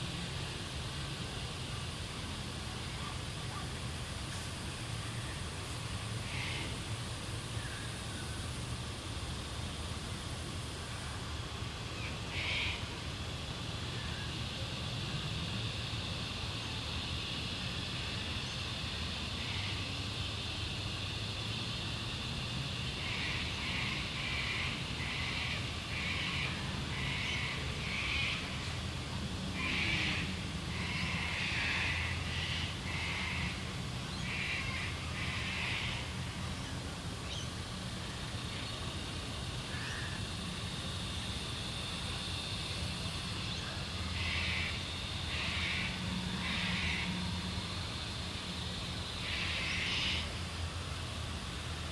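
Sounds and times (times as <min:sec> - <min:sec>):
low steady rumble: 0:00.0 - 0:51.9
steady high hum: 0:00.0 - 0:51.9.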